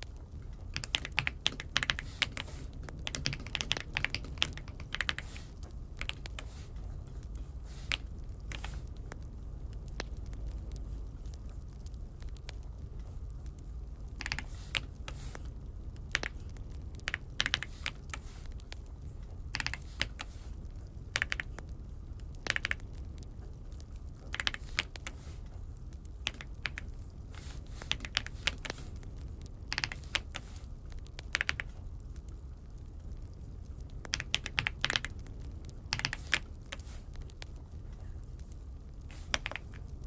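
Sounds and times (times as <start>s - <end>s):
steady low hum: 0.0s - 40.0s
mechanical keyboard typing: 0.2s - 12.8s, 14.1s - 25.4s, 26.0s - 32.3s, 33.9s - 37.6s, 39.0s - 40.0s.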